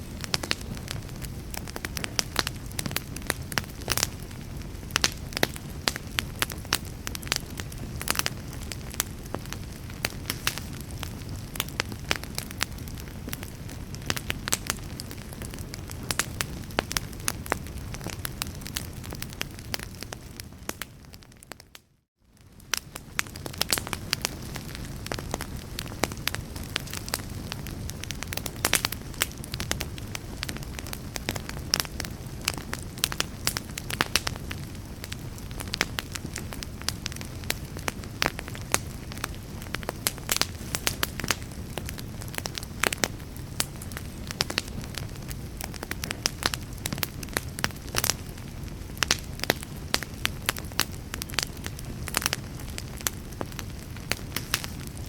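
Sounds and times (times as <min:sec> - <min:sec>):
low rush of flames: 0:00.0 - 0:21.6, 0:22.4 - 0:55.0
fire crackling and popping: 0:00.0 - 0:55.0.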